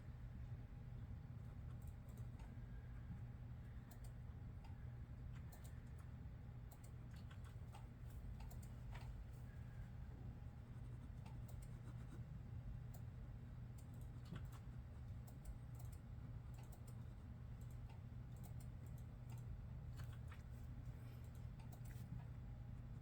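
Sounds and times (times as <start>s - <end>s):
steady low hum: 0.0s - 23.0s
faint keyboard typing: 0.9s - 9.6s, 10.6s - 23.0s.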